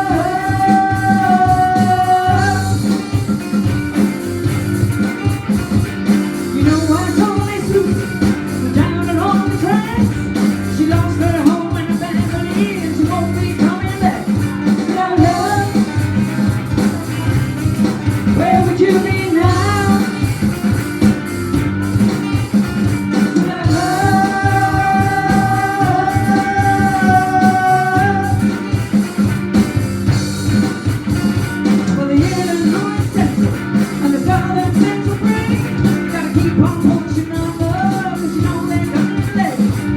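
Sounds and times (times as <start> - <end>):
live rock band playing: 0.0 - 39.9
sliding lead guitar line: 0.0 - 39.9.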